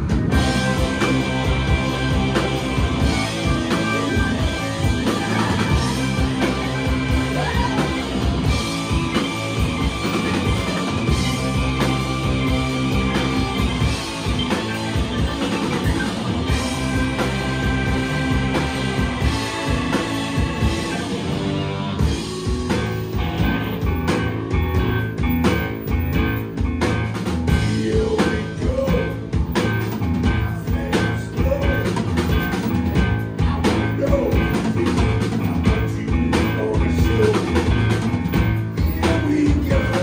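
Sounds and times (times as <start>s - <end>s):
drum kit beat: 0.0s - 40.0s
electric guitars: 0.0s - 40.0s
rock and roll band playing: 0.0s - 40.0s.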